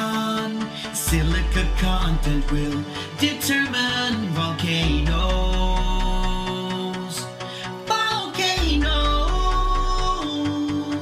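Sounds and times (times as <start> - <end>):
bass: 0.0 - 11.0
song with sustained chords: 0.0 - 11.0.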